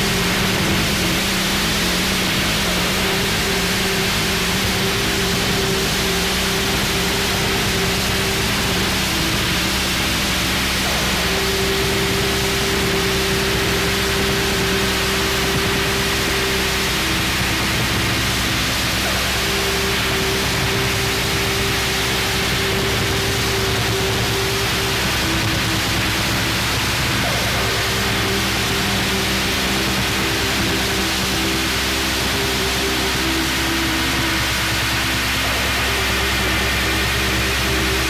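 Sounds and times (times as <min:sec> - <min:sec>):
dense static noise: 0:00.0 - 0:38.0
higher drone tone: 0:00.0 - 0:38.0
low droning tones: 0:00.0 - 0:38.0.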